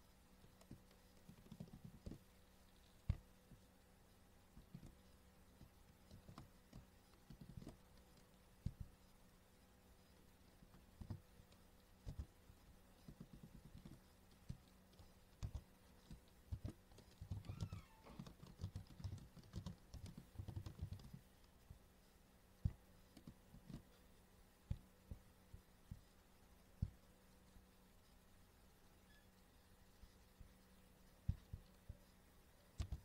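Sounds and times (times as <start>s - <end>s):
faint keyboard typing: 0.0s - 33.0s.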